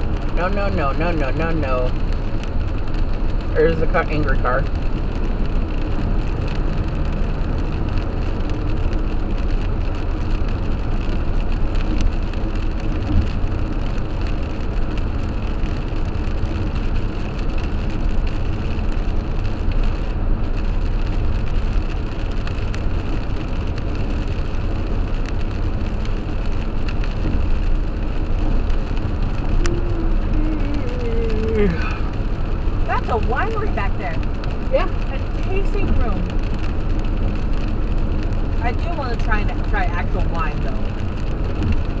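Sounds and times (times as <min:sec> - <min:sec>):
rain spattering on windshield: 0:00.0 - 0:42.0
road and tyre noise in car: 0:00.0 - 0:42.0.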